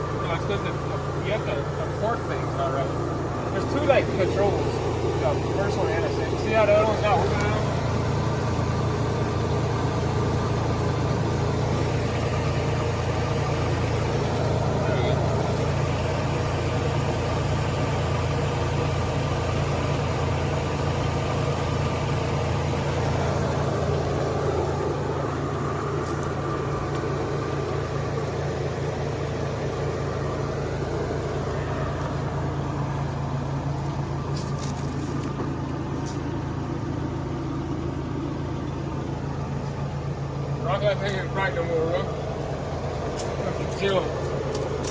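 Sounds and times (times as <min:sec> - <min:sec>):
vehicle engine idling: 0:00.0 - 0:44.9.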